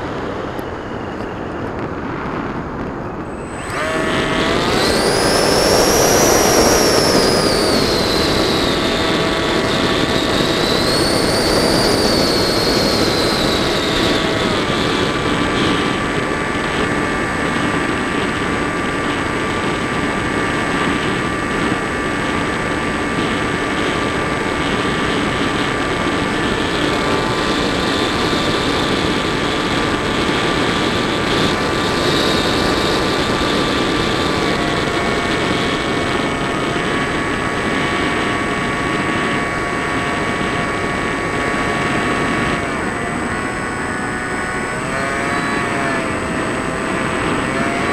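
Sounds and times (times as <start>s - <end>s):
model plane motor and propeller: 0.0s - 47.9s
rushing airflow noise: 0.0s - 47.9s.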